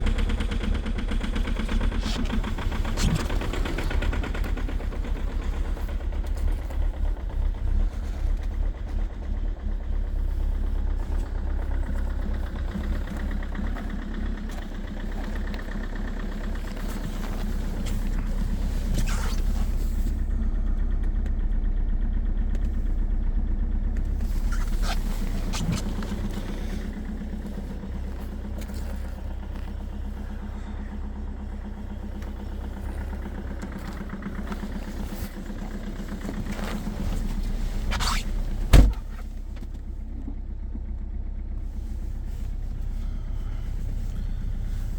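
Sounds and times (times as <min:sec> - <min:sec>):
car engine running rough: 0:00.0 - 0:44.9
engine knocking: 0:00.0 - 0:44.9.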